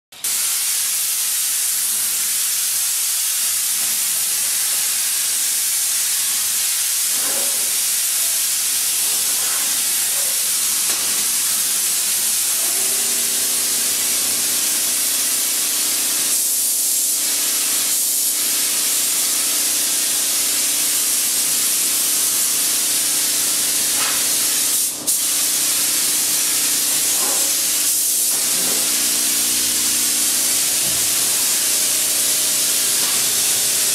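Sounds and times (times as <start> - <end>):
steady hiss: 0.3 - 33.9.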